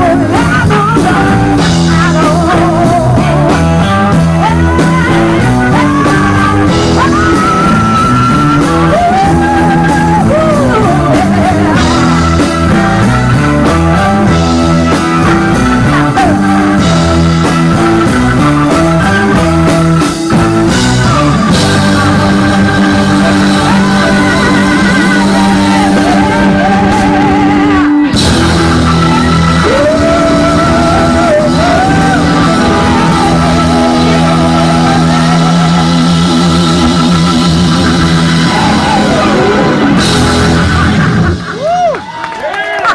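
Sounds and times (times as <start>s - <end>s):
electric guitar bending notes: 0.0s - 42.1s
bass line: 0.0s - 42.4s
drums: 0.0s - 42.9s.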